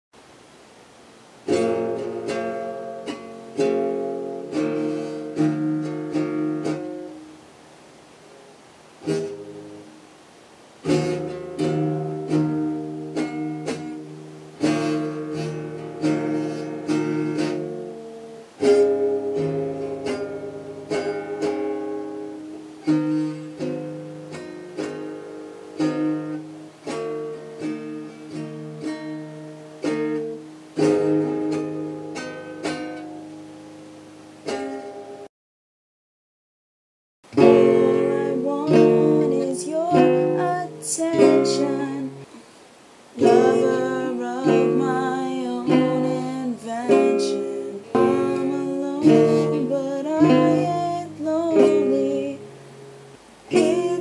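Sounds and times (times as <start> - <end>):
acoustic guitar chords strummed: 1.4 - 7.6, 8.2 - 10.1, 10.8 - 35.3, 37.3 - 54.0.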